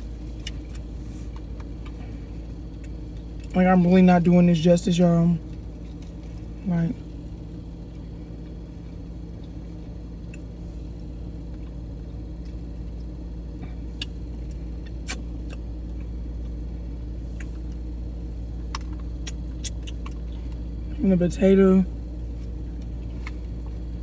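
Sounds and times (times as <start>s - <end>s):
car idling: 0.0s - 24.0s.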